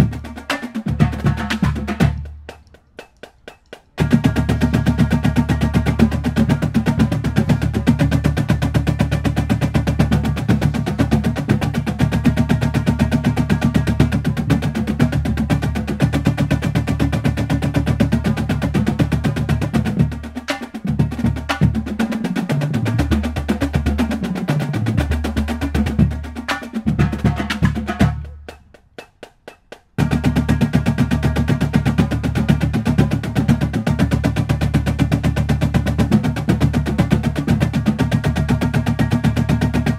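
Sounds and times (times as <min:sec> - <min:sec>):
marching drumline playing: 0:00.0 - 0:39.9.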